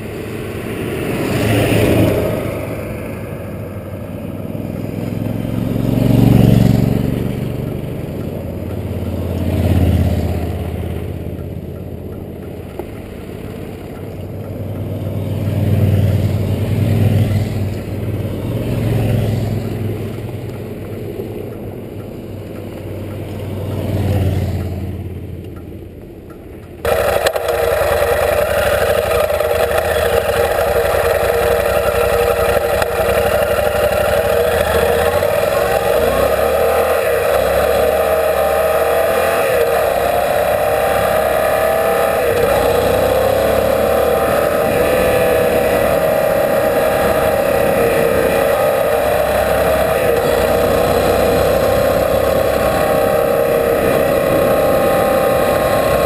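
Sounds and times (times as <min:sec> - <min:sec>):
motorcycle engine running: 0:00.0 - 0:56.0
tyres on gravel: 0:07.3 - 0:56.0.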